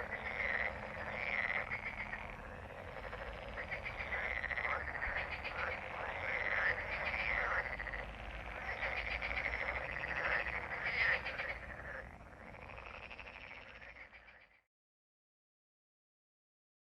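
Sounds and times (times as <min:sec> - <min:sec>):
frogs croaking in chorus: 0:00.0 - 0:14.7.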